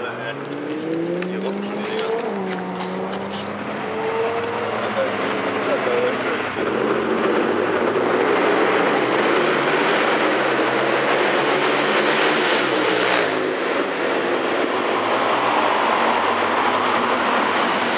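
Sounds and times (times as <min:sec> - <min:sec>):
motorbike engines in tunnel: 0:00.0 - 0:17.9
motorbike passing close: 0:00.0 - 0:17.9.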